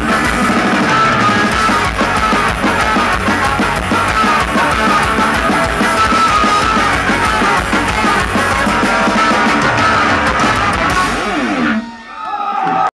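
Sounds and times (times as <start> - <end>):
ska-punk band playing live: 0.0 - 12.9.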